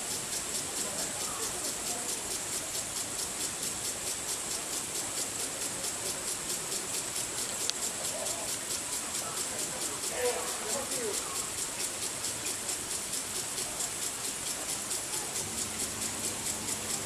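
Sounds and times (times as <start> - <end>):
water sprinkler spraying: 0.0 - 17.0.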